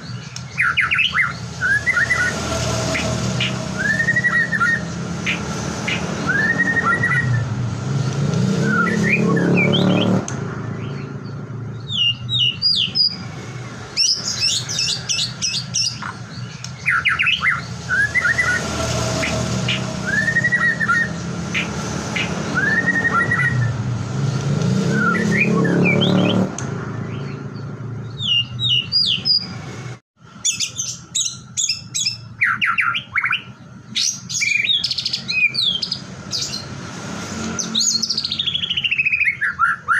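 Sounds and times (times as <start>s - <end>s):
bird song whistles and trills: 0.0s - 29.6s, 30.4s - 36.8s, 37.4s - 39.9s.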